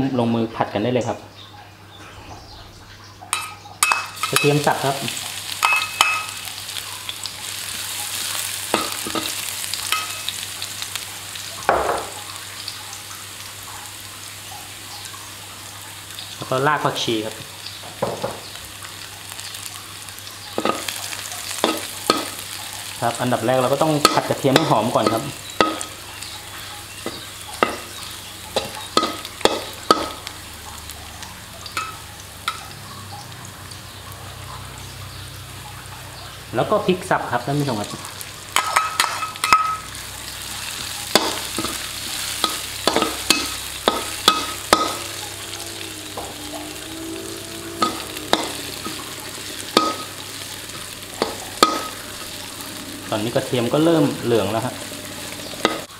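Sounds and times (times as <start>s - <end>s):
garlic sizzling in hot oil: 3.3s - 55.9s.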